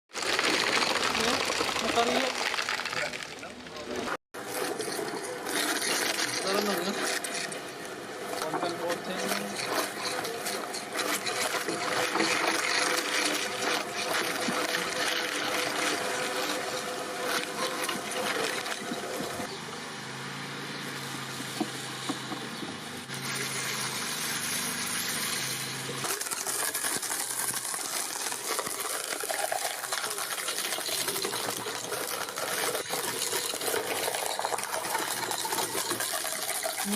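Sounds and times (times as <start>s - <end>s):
fruit-cutting machine running: 0.1s - 36.9s.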